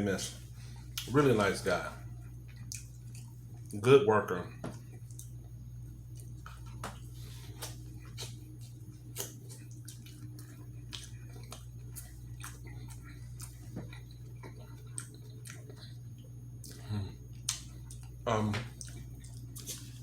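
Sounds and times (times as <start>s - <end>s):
low hum: 0.0s - 20.0s
wet chewing smacks: 2.2s - 3.8s, 4.8s - 20.0s.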